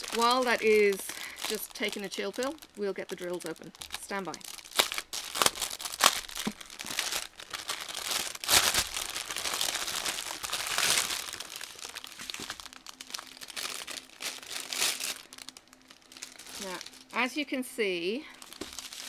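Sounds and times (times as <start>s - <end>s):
plastic wrapping crinkling: 0.0s - 17.4s, 18.2s - 19.0s.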